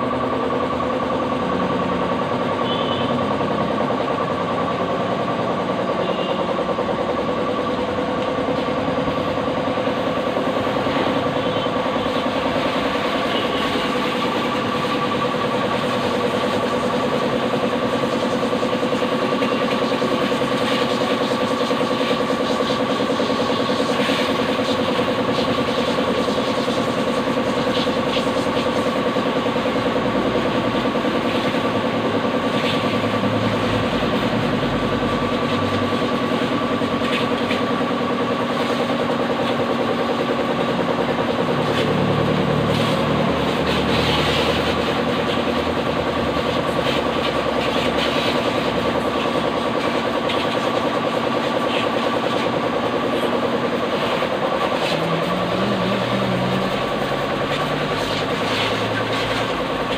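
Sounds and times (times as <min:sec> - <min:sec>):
pressure washer motor hum: 0:00.0 - 0:59.9
water jet spraying: 0:00.3 - 0:59.9.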